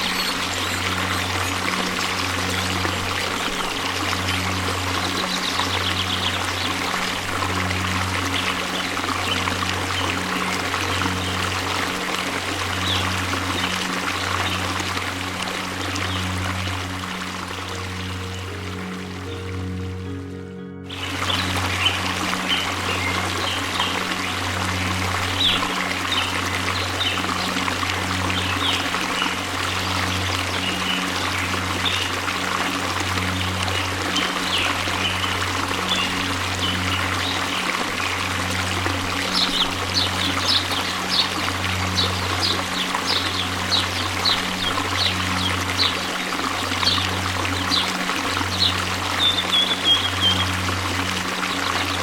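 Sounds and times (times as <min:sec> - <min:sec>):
birds chirping: 0:00.0 - 0:14.8, 0:15.6 - 0:52.0
waterfall rushing: 0:00.0 - 0:52.0.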